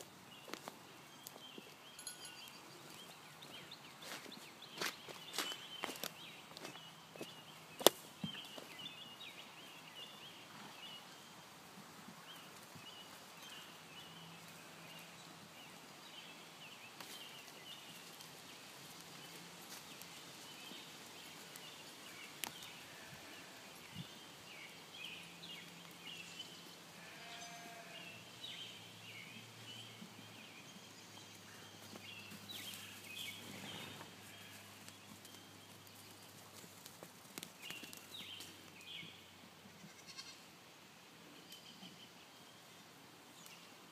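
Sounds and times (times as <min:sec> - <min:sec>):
small birds chirping: 0:00.0 - 0:11.6, 0:12.2 - 0:40.4.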